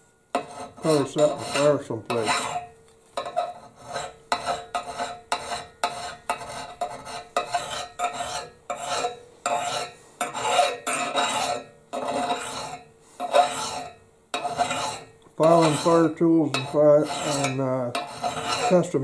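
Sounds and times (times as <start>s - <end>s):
hand file rasping on steel: 0.4s - 19.0s.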